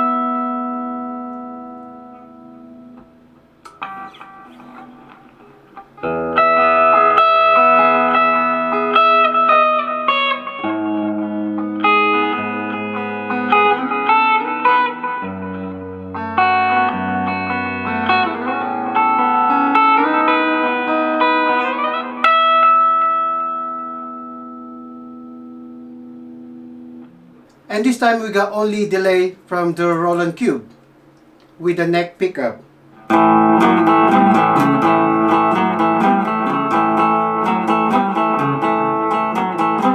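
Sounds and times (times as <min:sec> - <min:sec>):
electric guitar with reverb: 0:00.0 - 0:29.5, 0:32.6 - 0:39.9.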